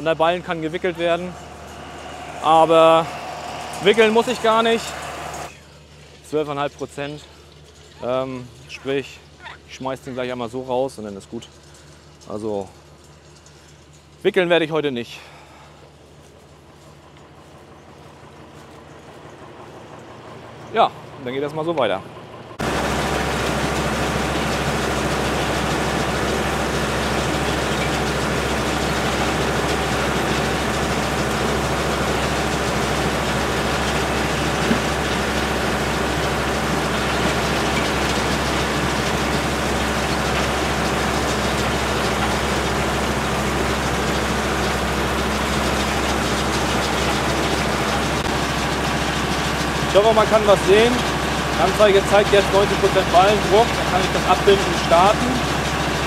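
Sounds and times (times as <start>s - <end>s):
tractor engine running under load: 0.0s - 56.0s.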